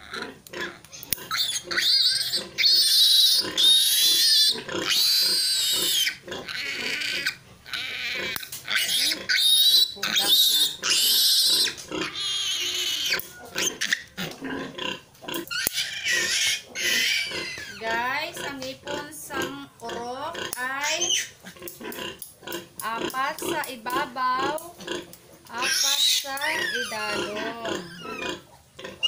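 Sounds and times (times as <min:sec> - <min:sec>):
piglet squealing: 0:00.0 - 0:19.1, 0:20.0 - 0:22.2, 0:23.2 - 0:29.0.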